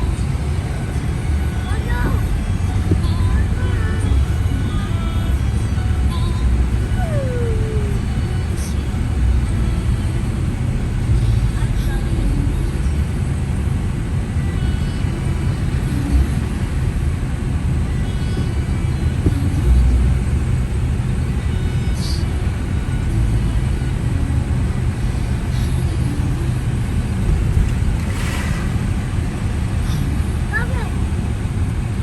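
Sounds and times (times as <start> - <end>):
car driving rumble: 0.0 - 32.0.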